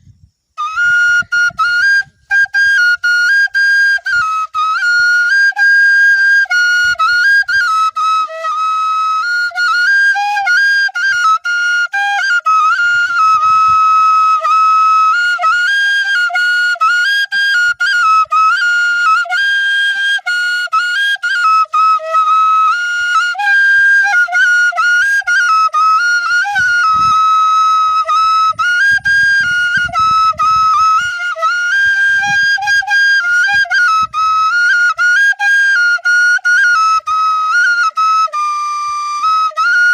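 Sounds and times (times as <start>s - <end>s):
bamboo flute melody: 0.0s - 39.9s.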